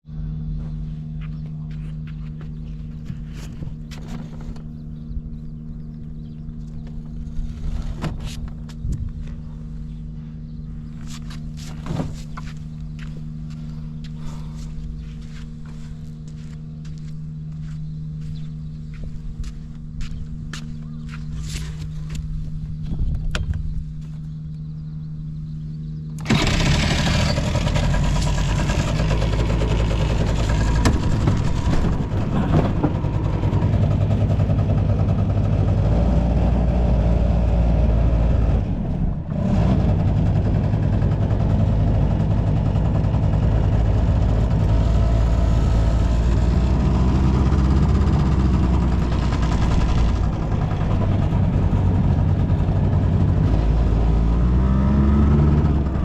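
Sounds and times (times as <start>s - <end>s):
scooter engine running: 0.4s - 25.0s, 25.8s - 56.0s.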